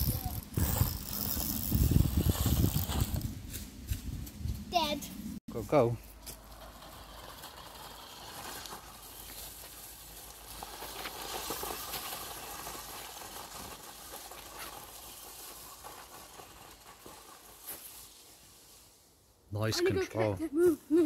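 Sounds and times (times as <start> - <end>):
rc truck motor and tyres rustling: 0.0 - 19.3.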